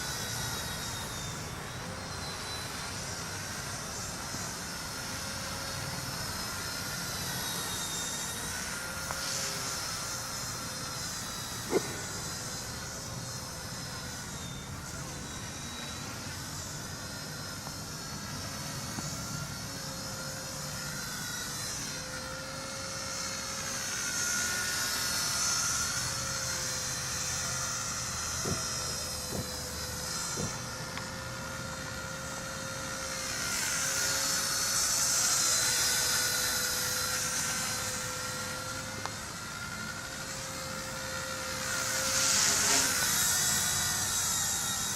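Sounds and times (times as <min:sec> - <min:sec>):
toy helicopter motor whine: 0:00.0 - 0:44.9.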